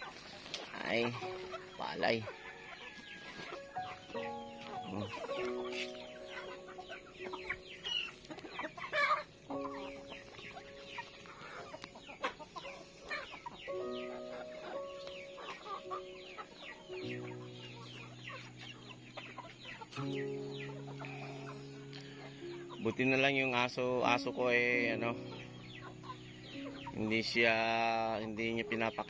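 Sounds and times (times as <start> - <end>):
background music with held notes: 0.0 - 29.0
chickens clucking: 0.0 - 29.0.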